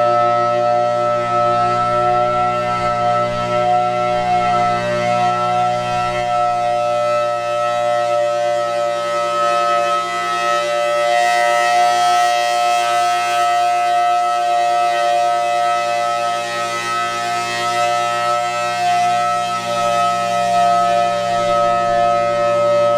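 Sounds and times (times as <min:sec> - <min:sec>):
warning siren alert tone: 0:00.0 - 0:22.9.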